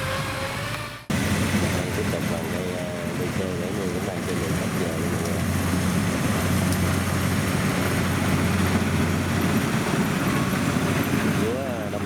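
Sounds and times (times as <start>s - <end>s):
farm machinery engine droning: 0.0s - 12.0s.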